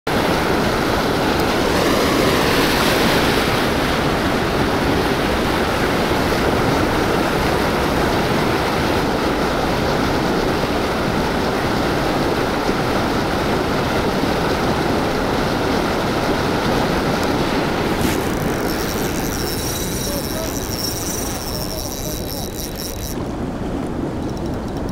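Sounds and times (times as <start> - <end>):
white water rushing: 0.1 - 24.9.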